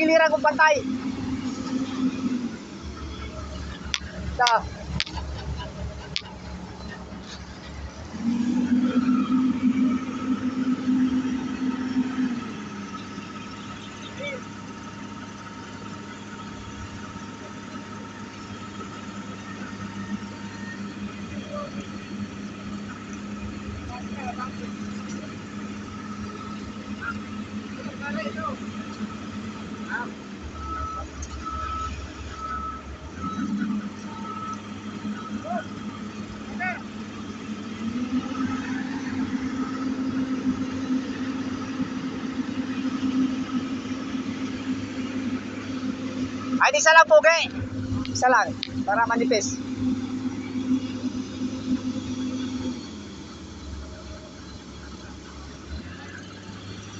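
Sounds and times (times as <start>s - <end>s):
diesel engine humming: 0.0s - 56.9s.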